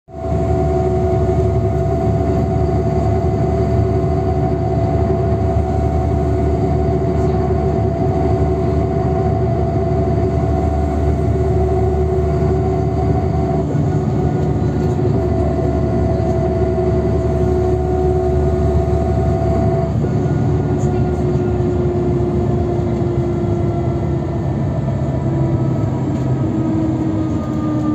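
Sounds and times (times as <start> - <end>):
bus engine and road rumble: 0.1 - 27.9
steady whine: 0.1 - 27.9.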